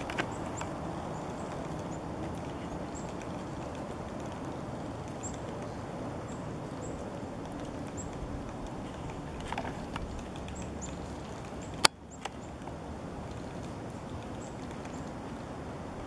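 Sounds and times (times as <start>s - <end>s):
woodpecker tapping on tree: 0.0s - 15.4s
steady background noise: 0.0s - 16.0s.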